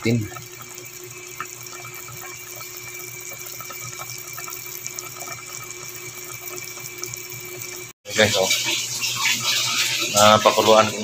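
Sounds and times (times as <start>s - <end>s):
broth simmering with pops: 0.0s - 10.6s.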